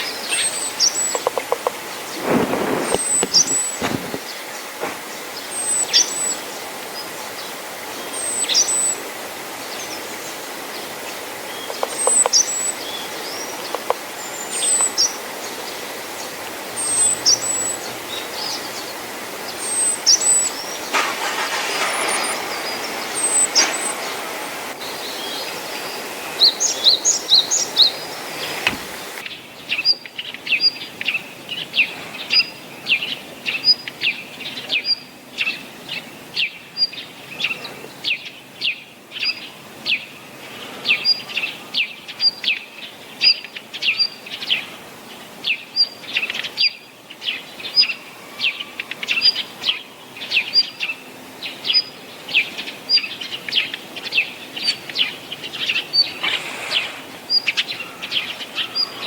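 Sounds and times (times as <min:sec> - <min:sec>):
small songbird calling: 0:00.0 - 0:04.6, 0:05.4 - 0:09.0, 0:09.6 - 0:21.0, 0:24.8 - 0:40.2, 0:40.8 - 0:59.0.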